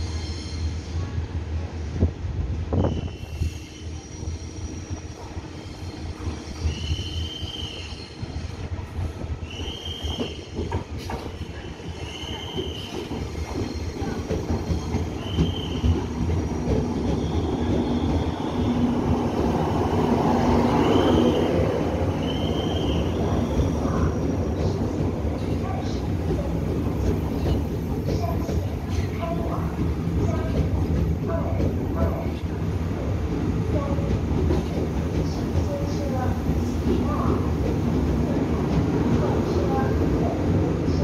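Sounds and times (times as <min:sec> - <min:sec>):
electric train rumbling: 0:00.0 - 0:41.0.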